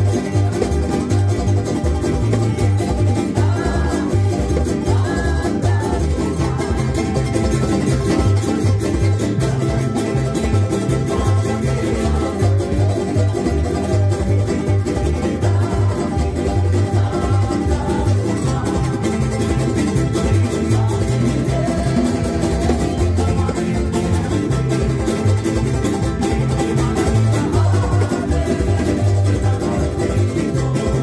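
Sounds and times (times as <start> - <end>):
electric guitar: 0.0 - 31.0
fast-strummed ukulele: 0.0 - 31.0
pulsing bass line: 0.0 - 31.0
string band music: 0.0 - 31.0.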